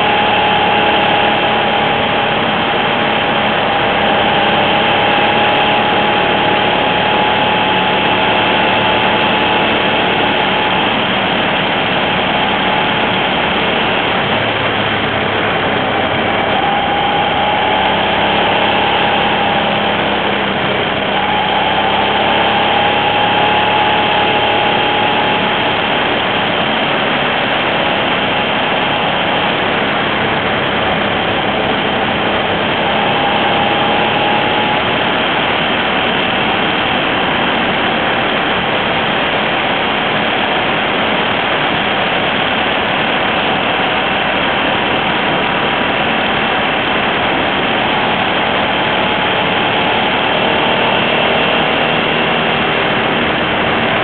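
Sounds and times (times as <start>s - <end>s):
motorcycle engine at low revs: 0.0s - 54.0s
steady rushing noise: 0.0s - 54.0s.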